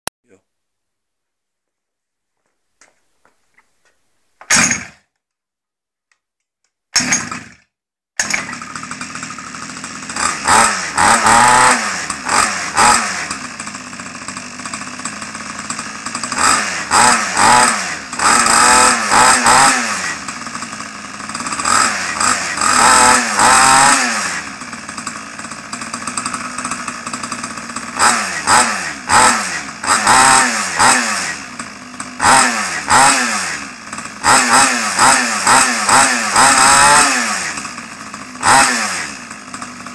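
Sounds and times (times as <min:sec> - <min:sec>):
minibike engine revving: 0:04.5 - 0:05.0, 0:07.0 - 0:07.6, 0:08.2 - 0:39.9.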